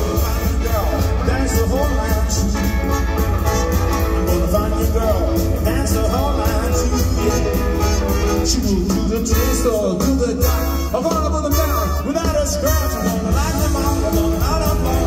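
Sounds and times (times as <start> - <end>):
drums: 0.0 - 15.0
horns: 0.0 - 15.0
live swing band playing: 0.0 - 15.0
steady bass line: 0.0 - 15.0.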